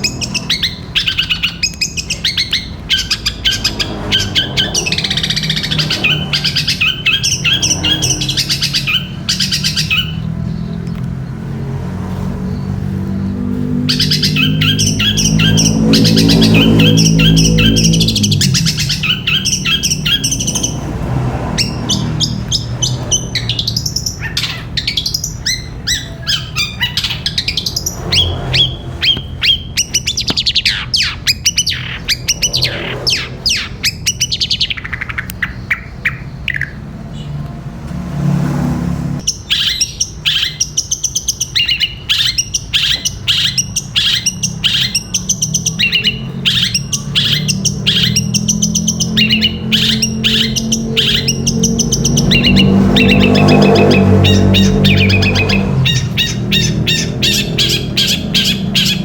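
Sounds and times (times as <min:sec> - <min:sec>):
shrike singing rapid chirps: 0:00.0 - 0:37.4, 0:39.2 - 0:59.0.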